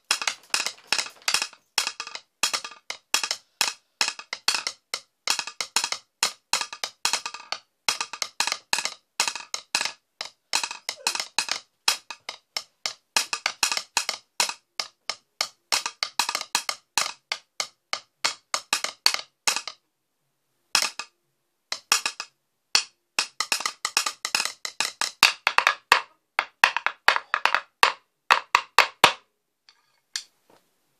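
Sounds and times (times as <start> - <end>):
drumsticks clicking on wooden stool: 0.0 - 19.8, 20.8 - 21.1, 21.7 - 30.3.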